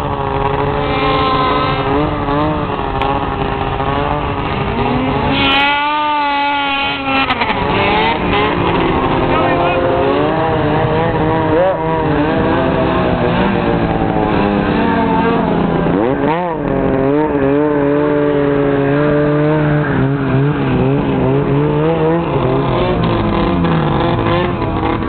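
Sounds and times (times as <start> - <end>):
snowmobile engine running hard: 0.0 - 25.0.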